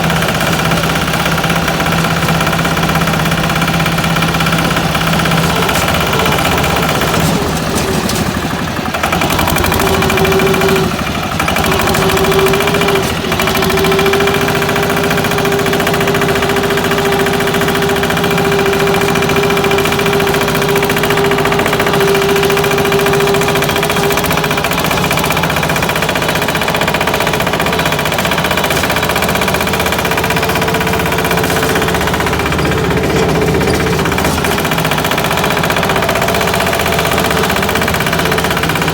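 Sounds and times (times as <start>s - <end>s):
diesel tractor engine knocking: 0.0s - 38.9s.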